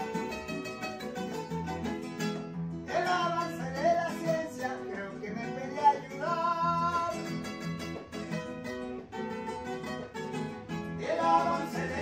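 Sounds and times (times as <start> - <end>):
acoustic guitars playing: 0.0 - 12.0.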